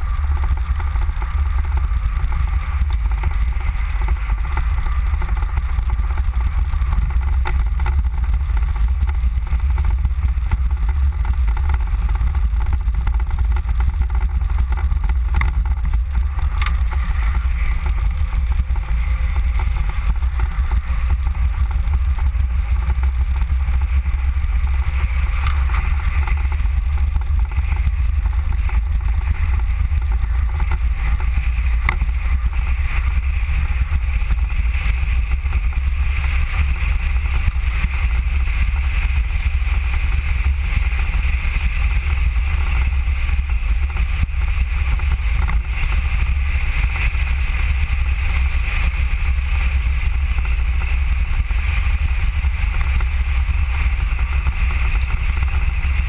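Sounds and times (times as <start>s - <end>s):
tyres rumbling on asphalt: 0.0s - 56.0s.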